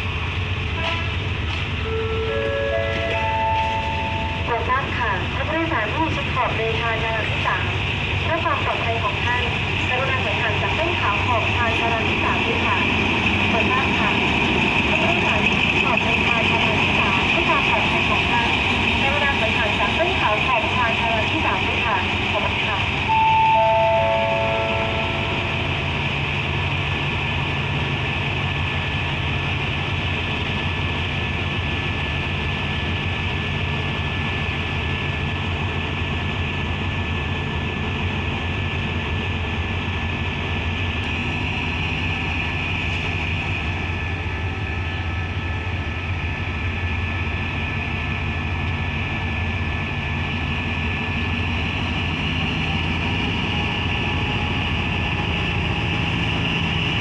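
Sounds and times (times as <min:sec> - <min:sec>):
locomotive engines humming: 0:00.0 - 0:57.0.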